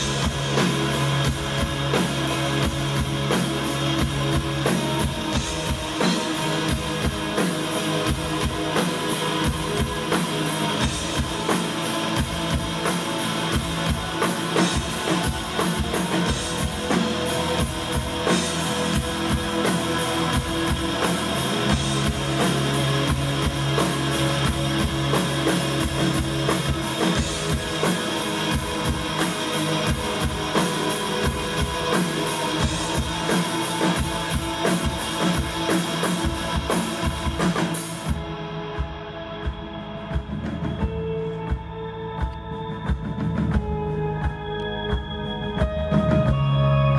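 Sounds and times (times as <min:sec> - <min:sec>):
drum kit beat: 0:00.0 - 0:46.6
electric guitars: 0:00.0 - 0:46.9.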